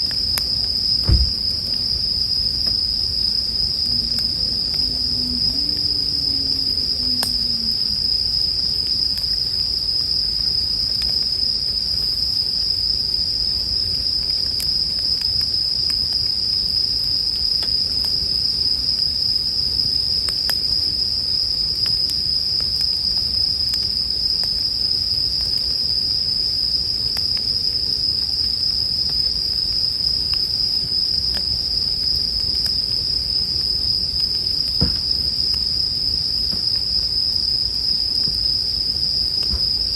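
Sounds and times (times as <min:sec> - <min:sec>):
campfire rumble: 0:00.0 - 0:39.9
crickets chirping: 0:00.0 - 0:39.9
fire crackles and pops: 0:00.0 - 0:39.9.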